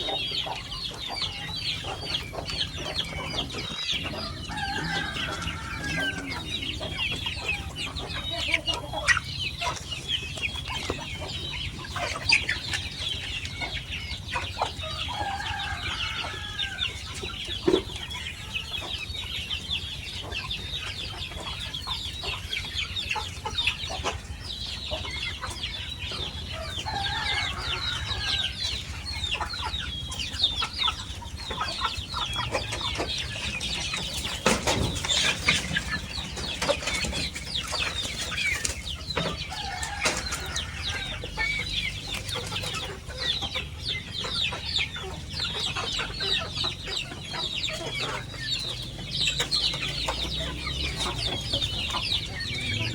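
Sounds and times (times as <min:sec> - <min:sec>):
chickens clucking and calling: 0:00.0 - 0:52.9.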